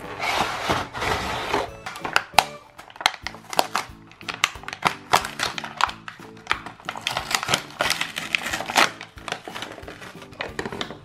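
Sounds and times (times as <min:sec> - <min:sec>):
background music: 0:00.0 - 0:11.0
plastic toy pieces clicking: 0:01.8 - 0:10.8
crinkling plastic packaging: 0:01.8 - 0:11.0.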